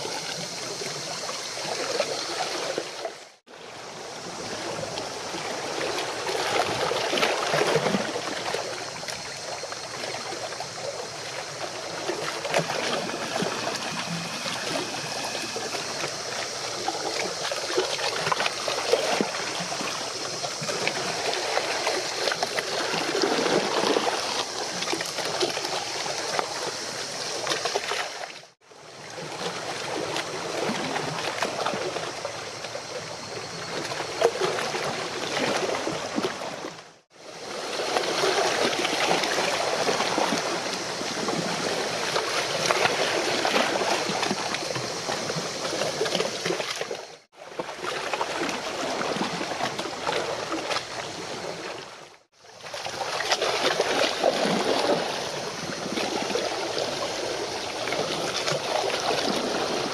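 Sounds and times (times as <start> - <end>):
water lapping at shoreline: 0.0 - 59.9.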